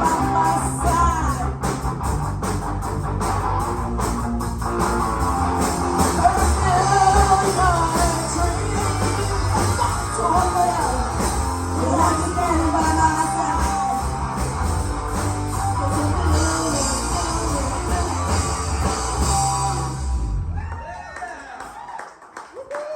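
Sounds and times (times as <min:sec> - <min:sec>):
live rock band playing: 0:00.0 - 0:20.6.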